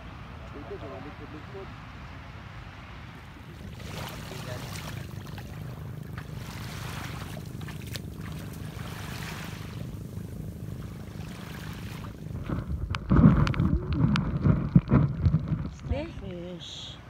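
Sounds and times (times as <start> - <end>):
boat engine drone: 0.0 - 17.0
sea water: 0.0 - 17.0
wind: 0.0 - 17.0.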